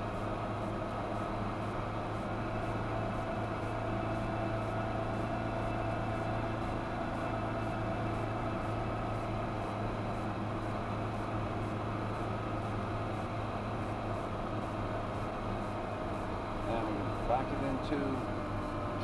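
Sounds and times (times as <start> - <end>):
truck engine droning under load: 0.0 - 19.0.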